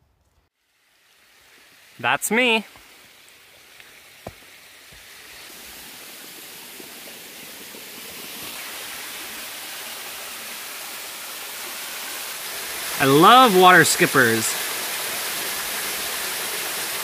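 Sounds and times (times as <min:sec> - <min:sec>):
waterfall rushing: 0:02.0 - 0:17.0.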